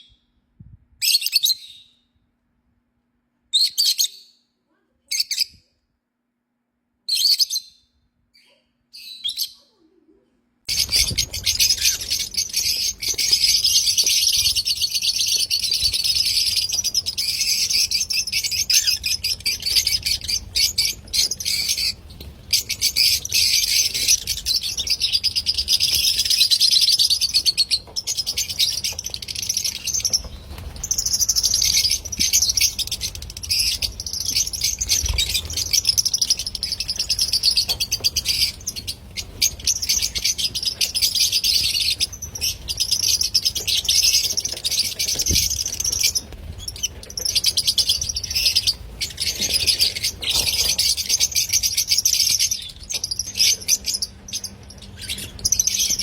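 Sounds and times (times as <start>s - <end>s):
lovebirds chattering: 10.7s - 56.0s.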